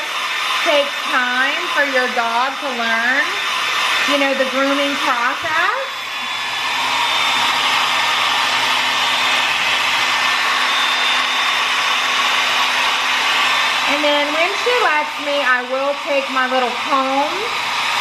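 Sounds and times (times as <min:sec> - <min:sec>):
hair dryer blowing air: 0:00.0 - 0:18.0.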